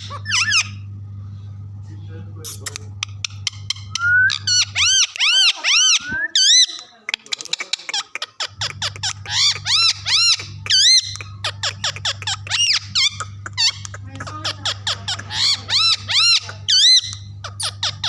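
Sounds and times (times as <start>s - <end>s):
parakeet shrill calls: 0.0s - 0.9s, 3.2s - 7.0s, 7.9s - 18.0s.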